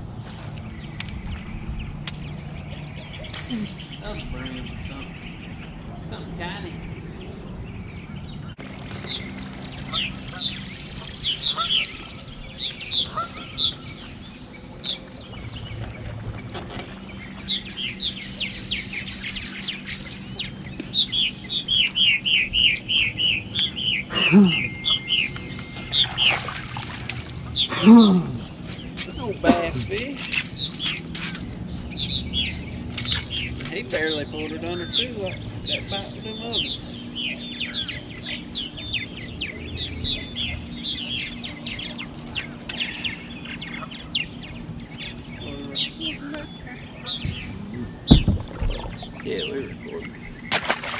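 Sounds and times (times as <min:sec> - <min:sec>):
small birds chirping: 0:00.0 - 0:50.9
steady low hum: 0:00.0 - 0:50.9.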